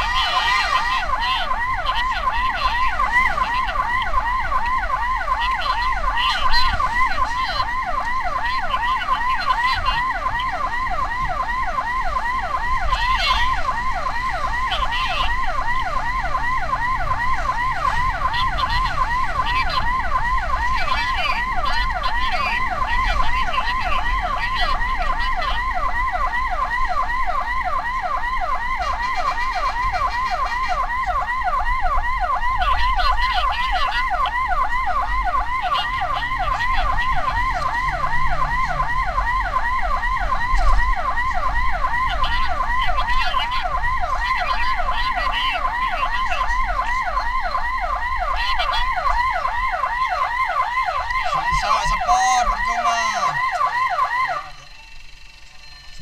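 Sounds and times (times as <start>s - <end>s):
ambulance siren yelping: 0.0s - 56.0s.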